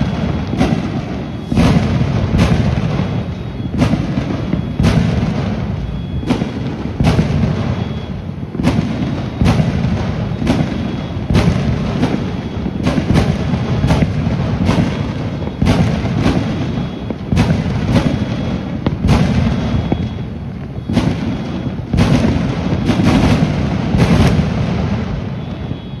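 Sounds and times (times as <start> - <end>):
rumble of distant fireworks: 0.0 - 26.0
sharp firework bangs: 0.0 - 26.0.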